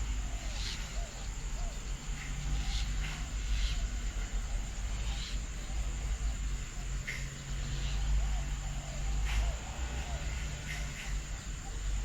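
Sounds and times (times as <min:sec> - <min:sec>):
low rumble and hum: 0:00.0 - 0:12.0.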